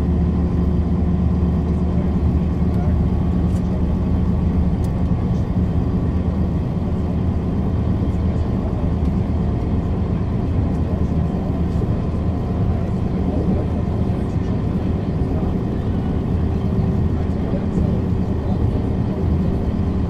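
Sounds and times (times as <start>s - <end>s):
diesel railbus engine idling: 0.0s - 20.0s.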